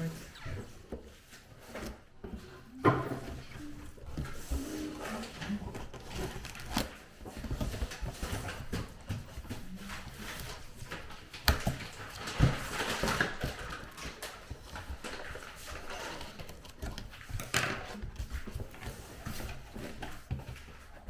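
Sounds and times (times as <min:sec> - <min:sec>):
packaging rustling and scraping: 0:00.0 - 0:21.0.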